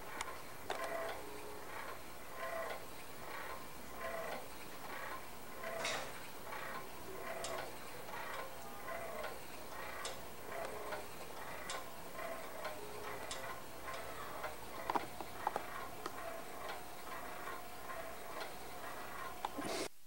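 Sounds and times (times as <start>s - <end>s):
clockwork mechanism ticking: 0.0s - 19.6s.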